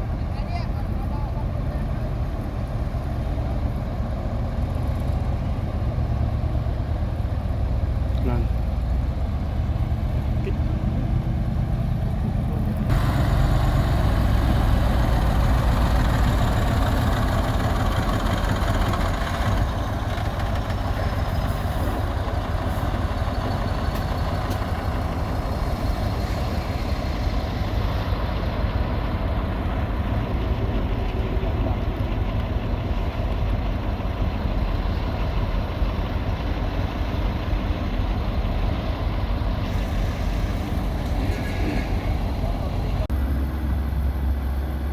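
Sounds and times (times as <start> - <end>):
diesel machinery engine rumble: 0.0 - 44.9.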